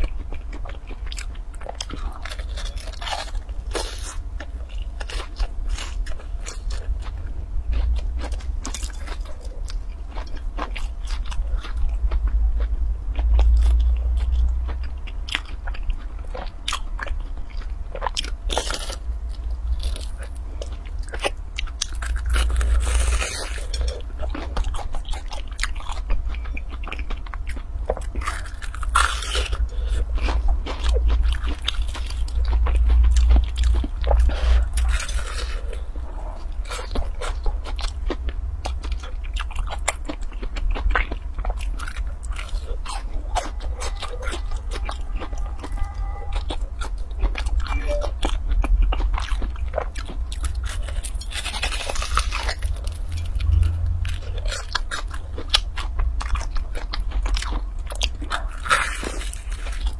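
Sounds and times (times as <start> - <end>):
crunching of crisp pastry: 0.0 - 59.9
steady low rumble: 0.0 - 59.9.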